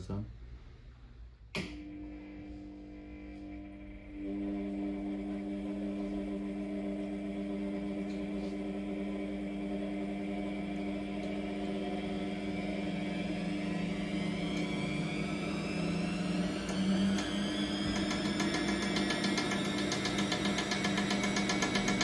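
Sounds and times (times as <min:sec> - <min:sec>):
motor humming: 0:01.6 - 0:22.0
rising high whine: 0:01.6 - 0:22.0.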